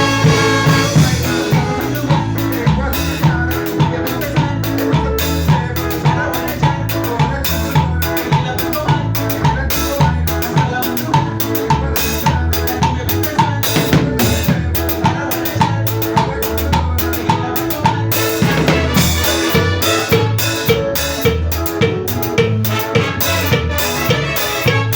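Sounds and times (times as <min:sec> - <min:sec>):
bass line: 0:00.0 - 0:24.9
drum kit beat: 0:00.0 - 0:24.9
live band playing: 0:00.0 - 0:24.9.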